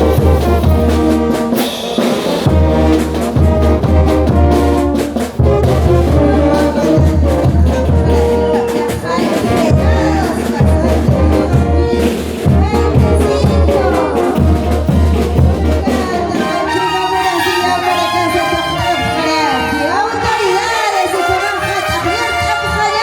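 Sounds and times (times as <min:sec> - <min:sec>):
trumpets and trombones: 0:00.0 - 0:23.0.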